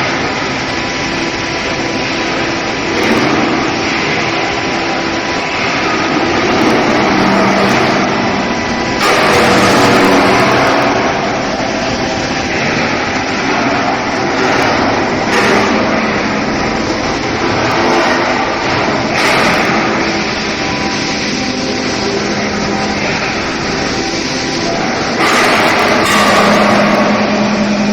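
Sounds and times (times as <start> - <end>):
industrial machinery running: 0.0 - 27.9.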